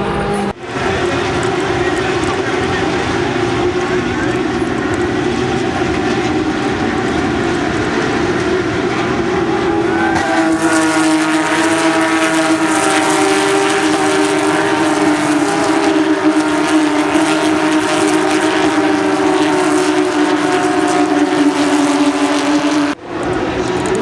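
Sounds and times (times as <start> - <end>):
steady tones: 0.0 - 24.0
vehicle engines droning: 0.0 - 24.0.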